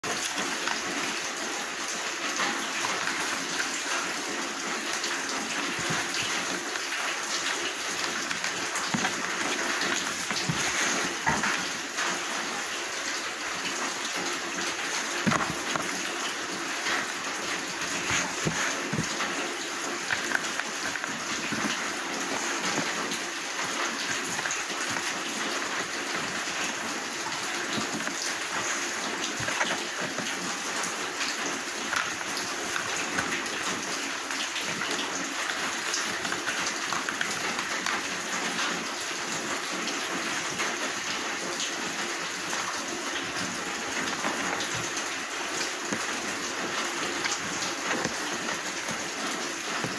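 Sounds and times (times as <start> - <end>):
steady rain-like hiss: 0.1 - 49.9.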